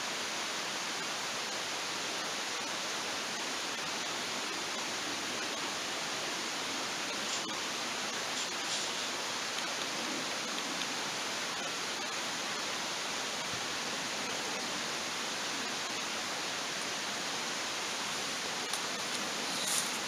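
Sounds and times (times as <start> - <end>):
water rushing: 1.8 - 20.0.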